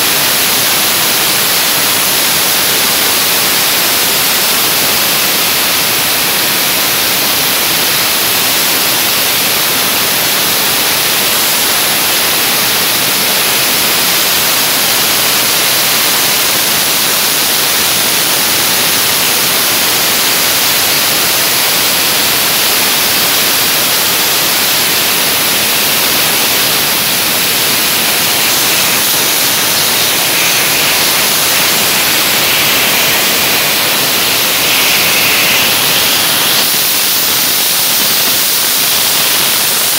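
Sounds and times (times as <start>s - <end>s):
dry ice blasting hiss: 0.0s - 39.9s.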